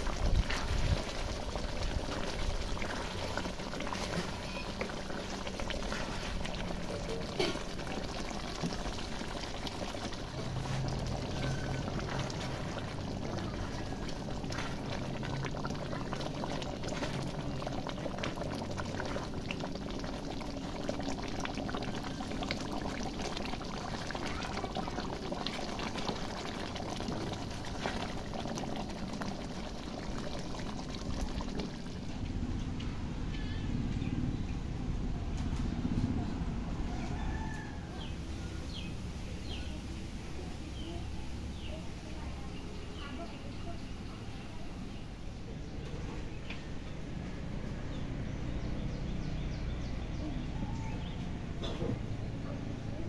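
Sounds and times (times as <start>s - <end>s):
curry boiling in a pot: 0.0s - 34.4s, 36.4s - 53.0s.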